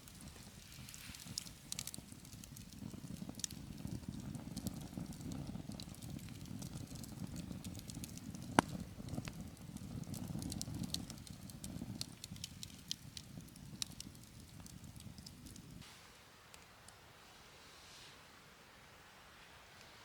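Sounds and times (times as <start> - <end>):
campfire crackling: 0.0 - 17.2.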